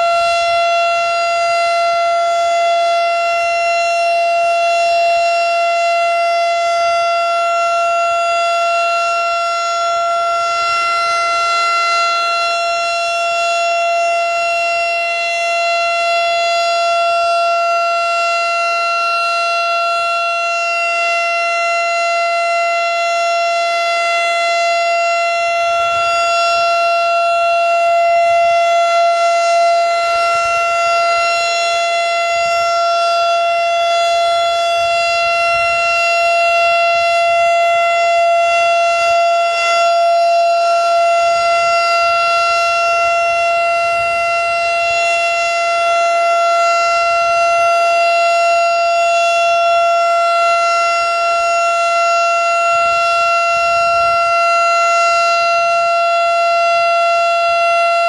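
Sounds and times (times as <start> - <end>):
tornado siren steady pitch: 0.0 - 58.0.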